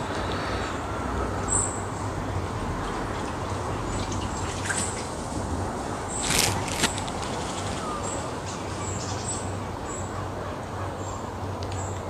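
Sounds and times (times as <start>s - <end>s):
steady woodland hiss: 0.0s - 12.0s.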